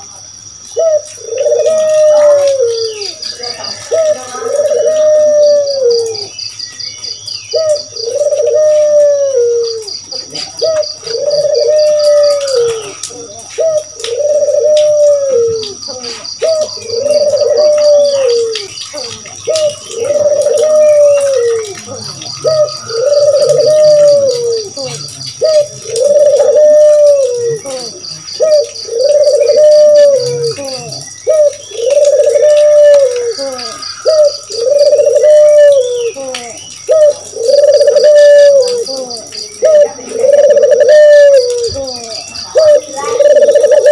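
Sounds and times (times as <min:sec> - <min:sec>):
dove cooing: 0:00.0 - 0:06.4, 0:07.0 - 0:43.9
small birds chirping: 0:00.0 - 0:43.9.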